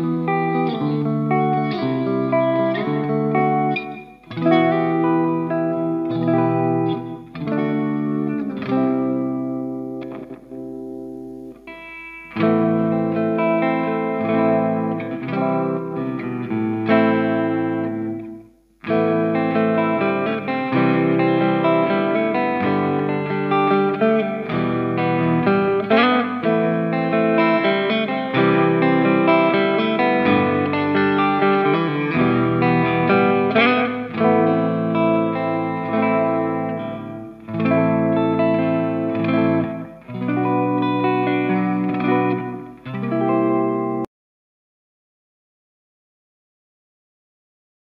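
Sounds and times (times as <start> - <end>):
clean electric guitar chords: 0.0 - 44.1.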